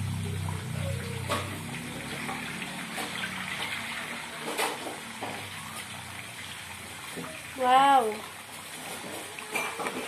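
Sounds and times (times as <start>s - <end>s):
food sizzling in frying oil: 0.0s - 10.0s.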